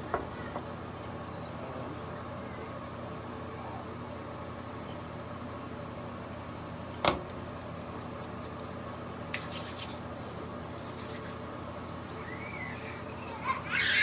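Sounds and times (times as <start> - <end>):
steady electric hum: 0.0 - 14.0.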